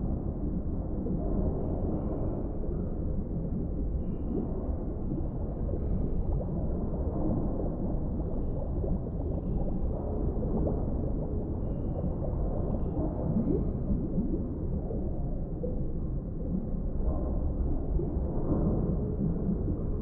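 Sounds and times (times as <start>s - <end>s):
low underwater rumble: 0.0s - 20.0s
bubbling gurgles: 0.2s - 20.0s.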